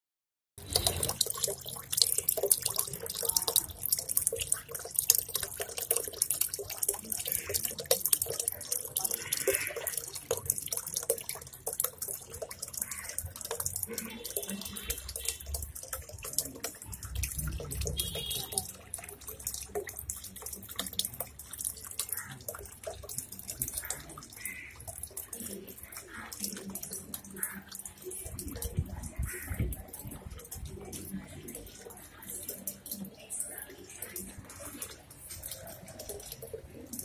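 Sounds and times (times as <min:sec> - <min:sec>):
fountain water splashing and trickling: 0:00.6 - 0:37.0.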